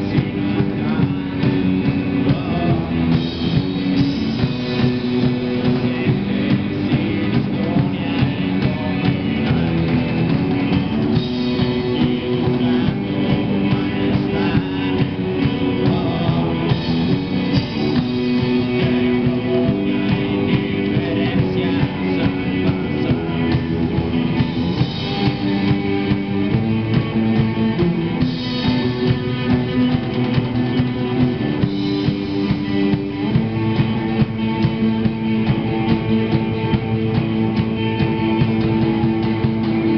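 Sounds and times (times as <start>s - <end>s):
drum kit beat: 0.0s - 39.9s
electric guitars: 0.0s - 39.9s.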